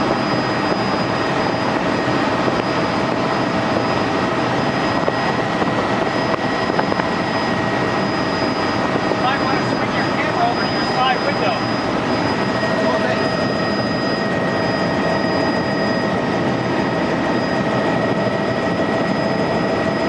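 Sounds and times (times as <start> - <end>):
helicopter engine and rotor noise: 0.0 - 20.0
thin high whine: 0.0 - 20.0.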